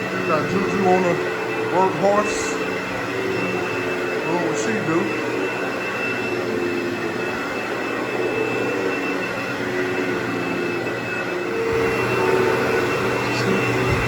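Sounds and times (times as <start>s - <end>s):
carpet cleaning machine drone: 0.0s - 14.0s
thin high tone: 0.0s - 14.0s.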